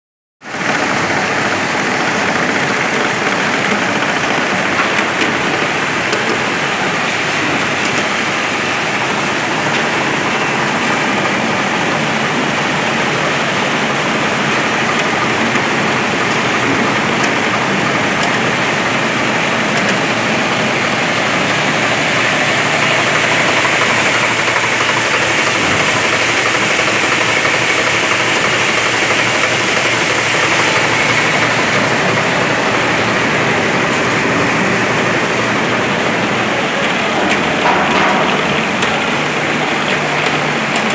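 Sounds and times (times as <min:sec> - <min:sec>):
conveyor chain machine noise: 0:00.5 - 0:40.9.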